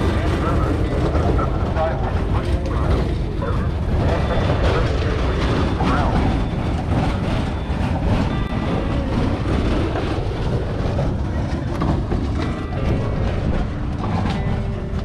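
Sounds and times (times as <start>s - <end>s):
faint background voices: 0.0s - 15.0s
wind buffeting microphone: 0.0s - 15.0s.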